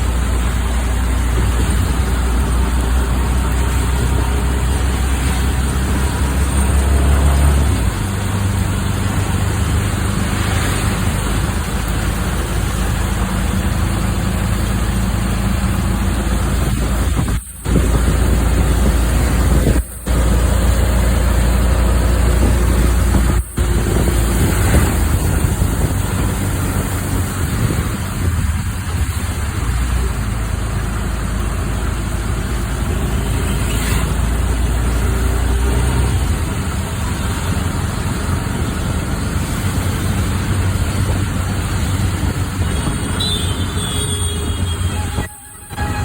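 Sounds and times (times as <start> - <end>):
rain on wet road hiss: 0.0 - 46.0
vehicle engines running: 0.0 - 46.0.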